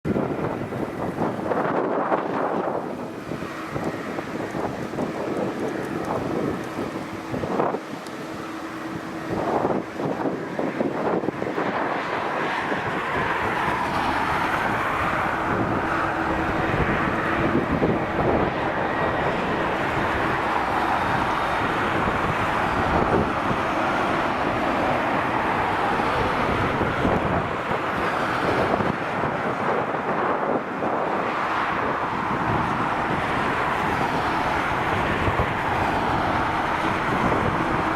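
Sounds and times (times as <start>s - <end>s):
jet engines running steadily: 0.0s - 37.9s
wind buffeting microphone: 0.0s - 37.9s.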